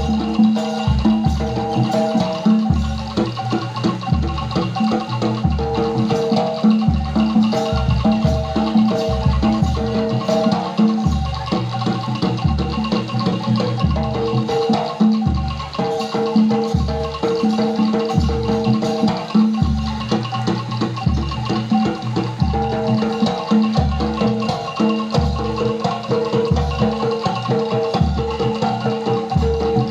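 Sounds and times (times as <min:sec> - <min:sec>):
metal-keyed instruments melody: 0:00.0 - 0:29.9.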